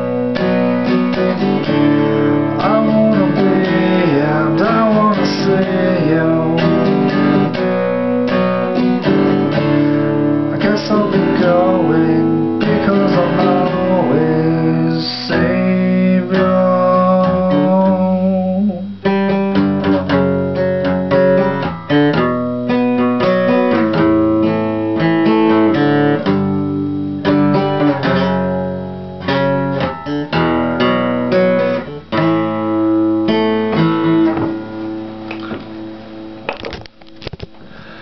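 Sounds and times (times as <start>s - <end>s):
acoustic guitar strumming chords: 0.0s - 38.0s.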